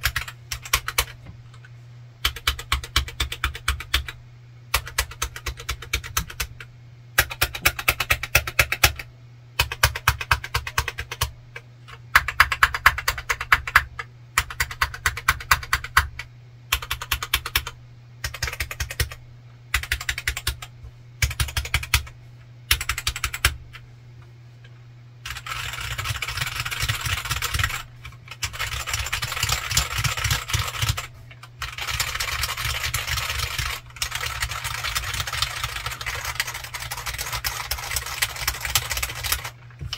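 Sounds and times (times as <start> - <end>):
mechanical keyboard typing: 0.0 - 1.3, 2.2 - 22.1, 22.7 - 23.8, 25.2 - 39.9.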